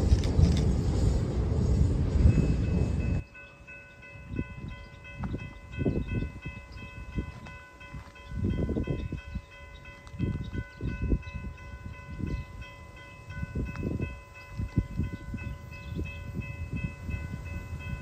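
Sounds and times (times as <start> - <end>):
wind buffeting microphone: 0.0 - 18.0
faint high ringing tones: 2.3 - 18.0.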